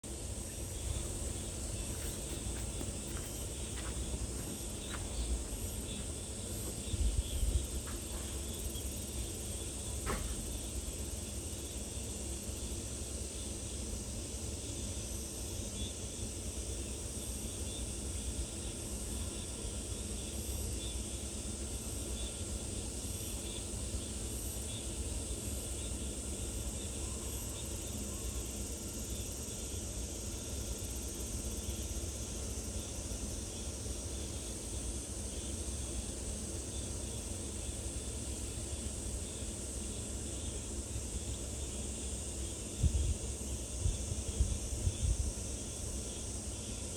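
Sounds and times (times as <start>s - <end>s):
high-pitched insect chorus: 0.1s - 46.9s.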